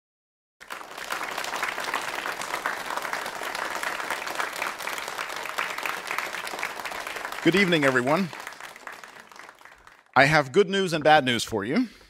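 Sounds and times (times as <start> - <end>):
audience applauding: 0.6 - 10.5.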